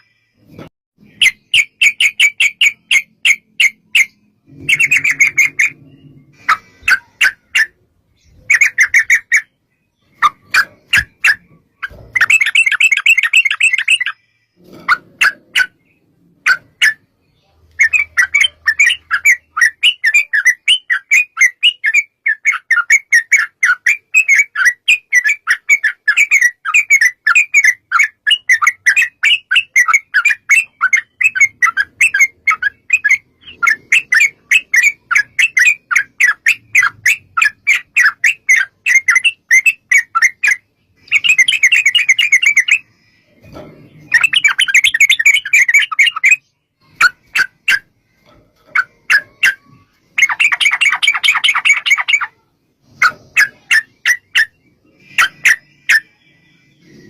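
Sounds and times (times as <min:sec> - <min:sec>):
bird chirping: 0:00.0 - 0:57.0
bird harsh chattering: 0:01.0 - 0:17.1, 0:17.7 - 0:56.2.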